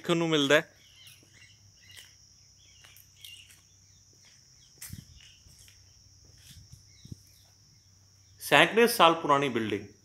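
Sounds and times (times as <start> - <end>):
insect drone: 0.0 - 10.0
bird chirps: 0.4 - 8.6.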